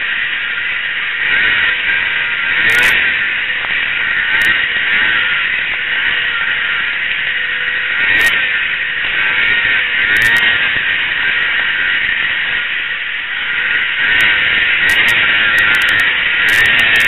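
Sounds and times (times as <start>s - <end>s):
snowmobile engine at speed: 0.0s - 17.0s.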